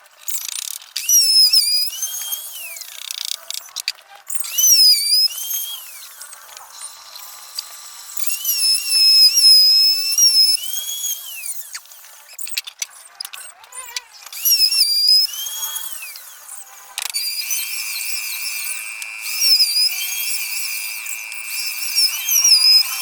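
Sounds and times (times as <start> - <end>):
power drill whining: 1.0 - 3.1, 4.3 - 12.6, 13.3 - 23.0.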